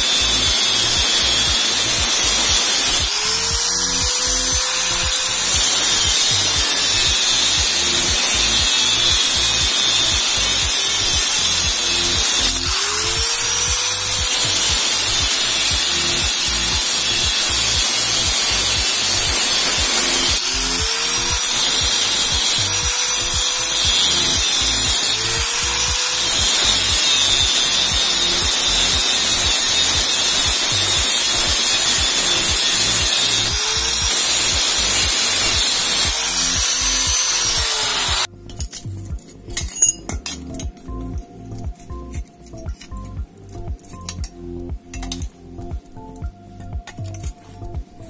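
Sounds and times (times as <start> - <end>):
background music with beat: 0.0 - 29.1, 29.9 - 48.0
angle grinder cutting metal: 0.0 - 40.8.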